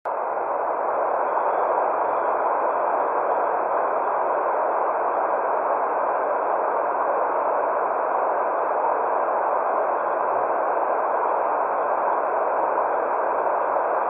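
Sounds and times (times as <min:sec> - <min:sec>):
muffled white noise hiss: 0:00.1 - 0:14.0.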